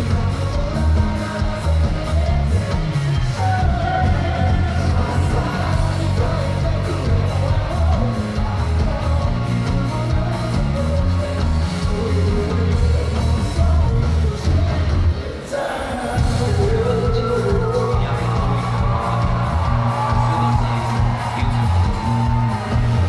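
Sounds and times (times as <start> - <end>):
rock band playing live: 0.0 - 15.5, 16.1 - 23.0
person singing: 0.0 - 23.0.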